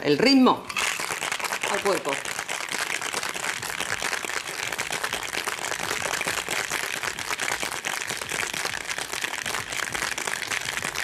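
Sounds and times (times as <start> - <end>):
ice rattling in cocktail shaker: 0.7 - 11.0.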